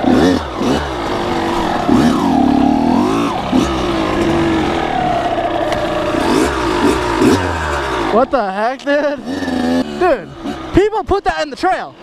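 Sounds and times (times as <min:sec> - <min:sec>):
two-stroke engine revving: 0:00.0 - 0:11.5.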